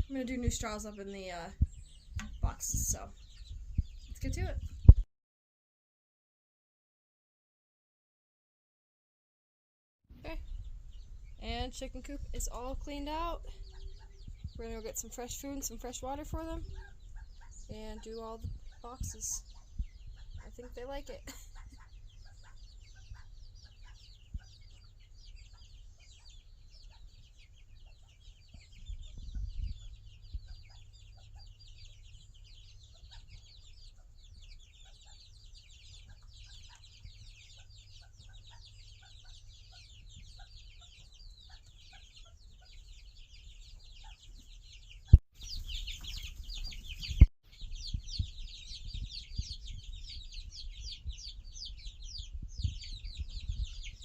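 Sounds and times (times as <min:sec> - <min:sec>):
chickens clucking: 0:00.0 - 0:05.0, 0:10.2 - 0:54.0.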